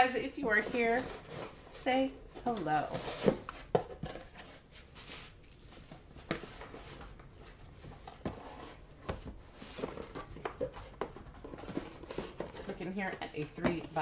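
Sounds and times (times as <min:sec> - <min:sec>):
cardboard and packing rustling: 0:00.0 - 0:14.0.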